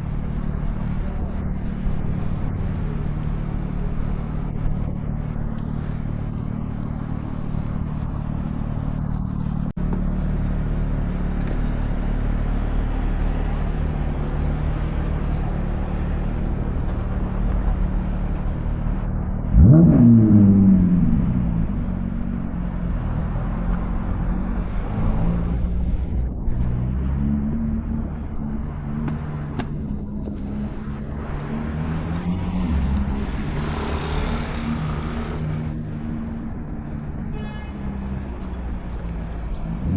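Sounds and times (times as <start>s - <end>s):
low engine hum: 0.0s - 39.9s
vehicle accelerating: 0.0s - 39.9s.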